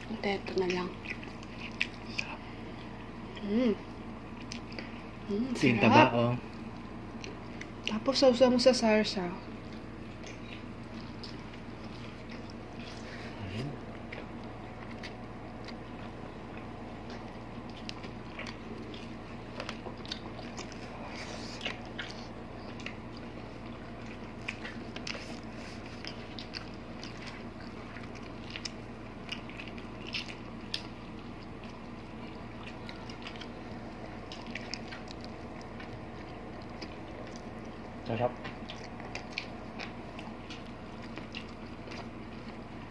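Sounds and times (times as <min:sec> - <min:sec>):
chewing and lip smacking: 0:00.0 - 0:03.5, 0:04.2 - 0:05.2, 0:06.5 - 0:08.2, 0:09.4 - 0:42.9
faint steady hum: 0:00.0 - 0:42.9.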